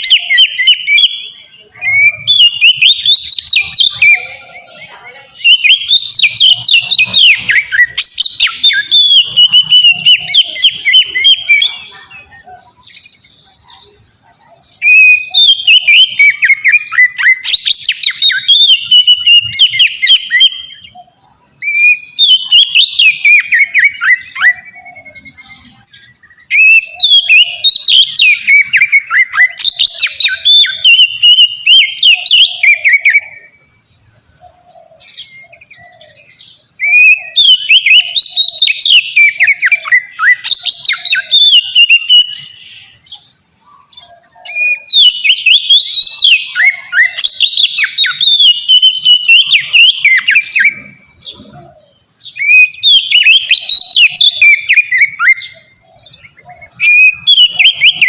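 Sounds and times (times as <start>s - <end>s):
bird singing whistled song: 0.0s - 58.0s.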